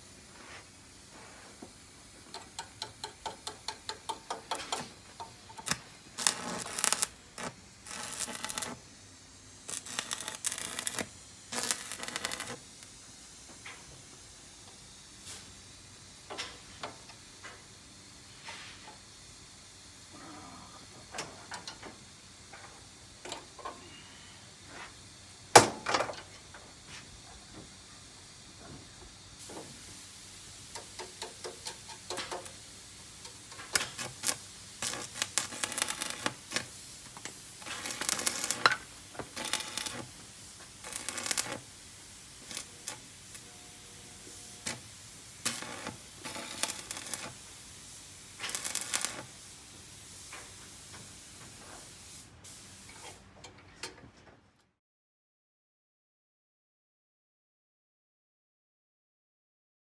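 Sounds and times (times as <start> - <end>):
arc welding crackling sizzle: 0.0 - 53.1.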